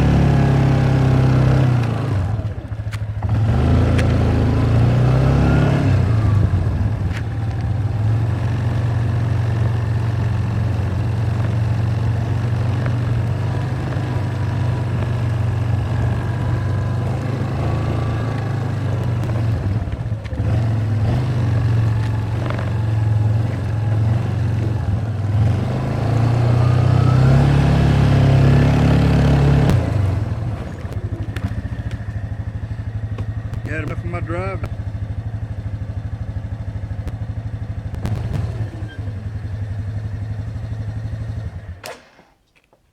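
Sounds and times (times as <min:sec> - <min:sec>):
quad bike engine running: 0:00.0 - 0:42.1.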